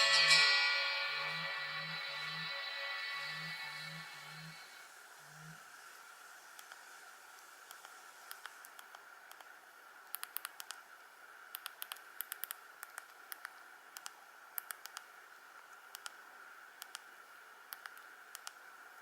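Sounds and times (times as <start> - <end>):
faint hiss: 0.0 - 19.0.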